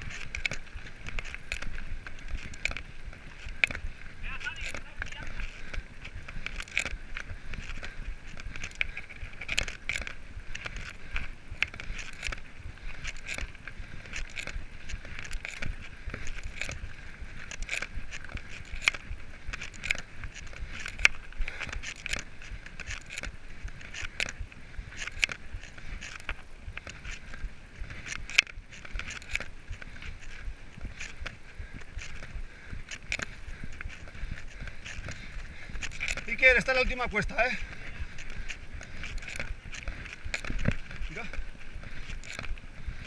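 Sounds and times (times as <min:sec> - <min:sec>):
bike rattling: 0:00.0 - 0:43.0
tyres crunching on gravel: 0:00.0 - 0:43.0.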